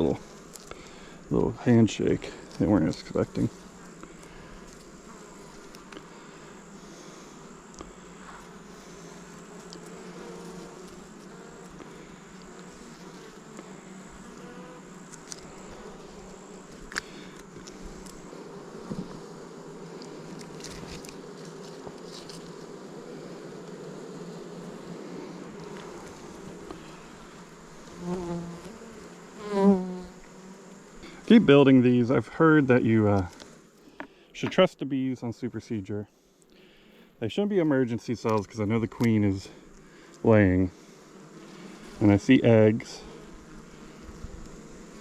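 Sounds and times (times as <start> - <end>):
bees buzzing: 0.0 - 34.3, 34.9 - 45.0.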